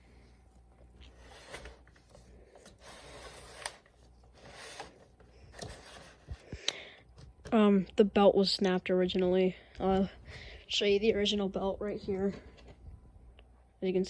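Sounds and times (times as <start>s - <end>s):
soft low hum: 0.0s - 14.0s.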